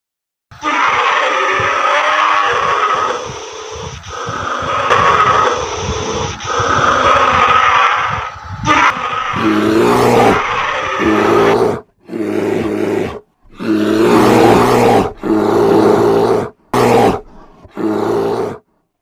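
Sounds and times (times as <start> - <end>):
bear roaring: 0.6 - 18.7.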